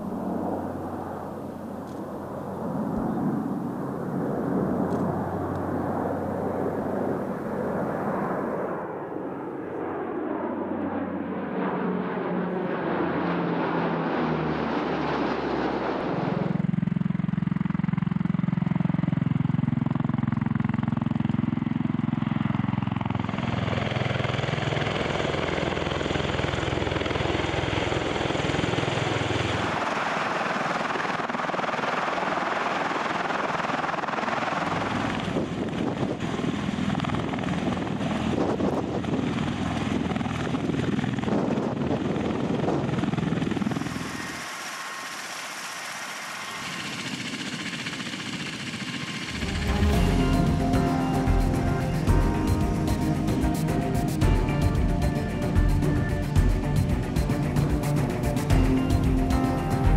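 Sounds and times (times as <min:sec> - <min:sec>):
tiltrotor aircraft rotors rushing: 0:00.0 - 0:59.9
turboprop engines droning overhead: 0:00.0 - 0:59.9.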